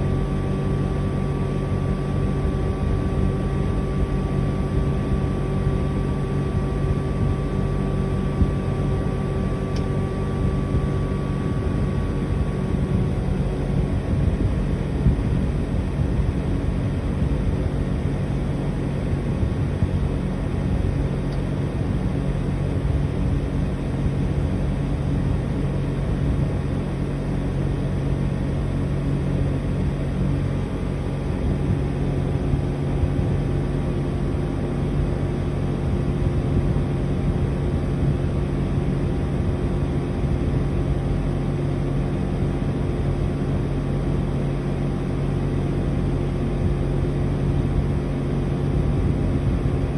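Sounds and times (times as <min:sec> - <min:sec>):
air conditioner compressor hum: 0:00.0 - 0:49.9
fan rushing: 0:00.0 - 0:49.9.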